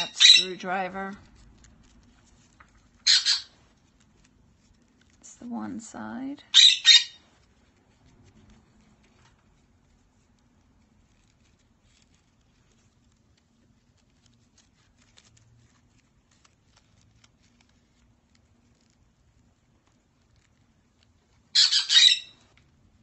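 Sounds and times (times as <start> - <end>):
faint ticks and rustles of twine: 0.0 - 6.5, 7.2 - 23.0.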